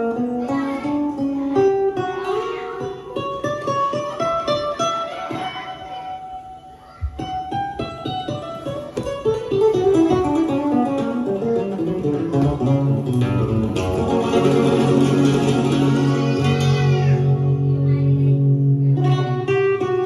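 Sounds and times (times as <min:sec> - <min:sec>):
acoustic guitar music over loudspeakers: 0:00.0 - 0:20.0.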